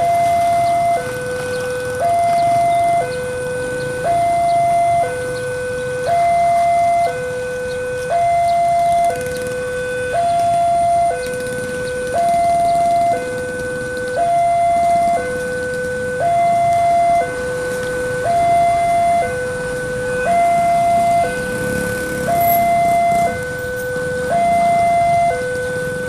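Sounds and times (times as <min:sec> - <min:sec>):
diesel locomotive rumble: 0:00.0 - 0:26.0
two-tone electronic warning alarm: 0:00.0 - 0:26.0.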